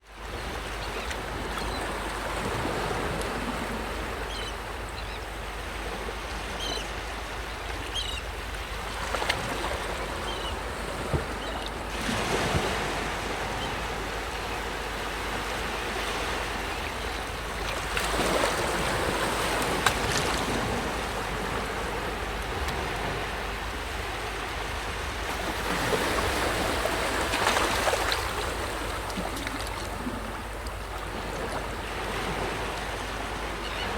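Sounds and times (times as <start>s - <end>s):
sea waves washing onto shore: 0.2s - 33.9s.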